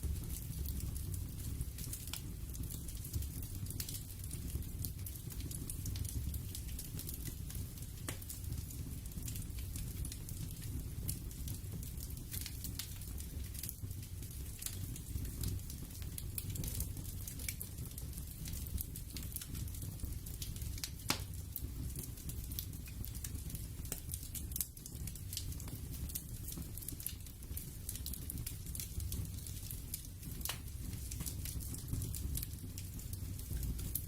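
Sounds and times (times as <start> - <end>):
crackling and pops: 0.0 - 34.0.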